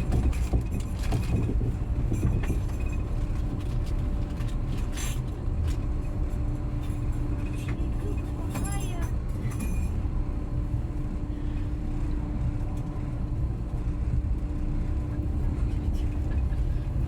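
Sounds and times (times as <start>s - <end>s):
constant hum: 0.0s - 17.0s
train rumble: 0.0s - 17.0s.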